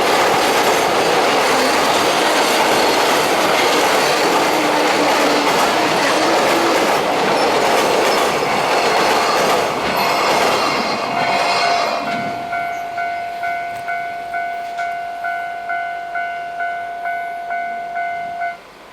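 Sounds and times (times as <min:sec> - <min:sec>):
train wagons clattering past: 0:00.0 - 0:15.5
level crossing alarm dinging: 0:00.6 - 0:18.6.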